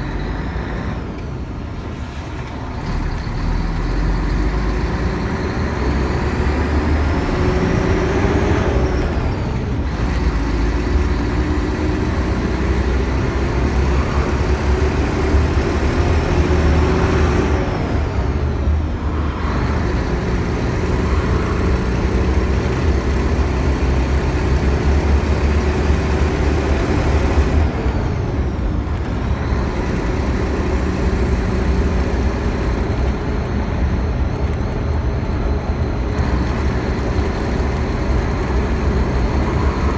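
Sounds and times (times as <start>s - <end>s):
diesel coach engine pulling under load: 0.0s - 39.9s.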